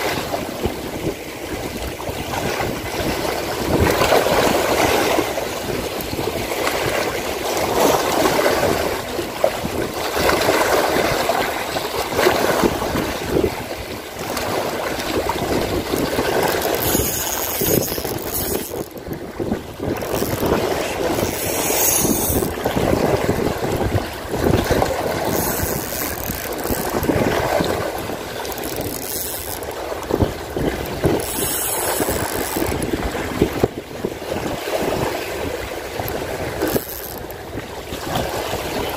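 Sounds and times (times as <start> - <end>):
waves splashing on rocks: 0.0 - 38.9
wind on microphone: 0.0 - 38.9.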